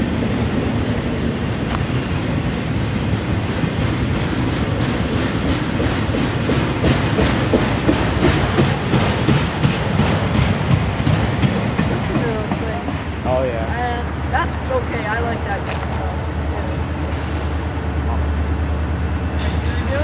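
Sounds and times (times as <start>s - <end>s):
train wheels rumbling on rail: 0.0s - 20.0s
clickety-clack over rail joints: 0.3s - 18.2s, 19.2s - 20.0s.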